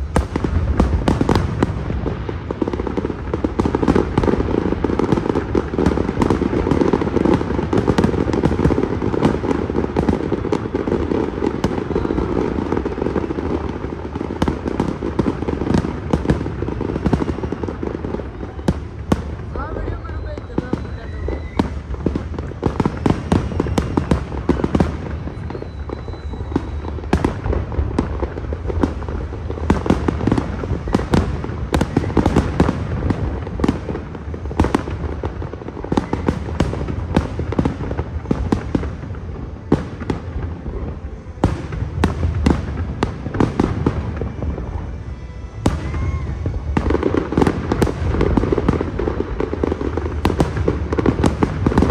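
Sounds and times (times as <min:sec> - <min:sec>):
fireworks bursting: 0:00.0 - 0:51.9.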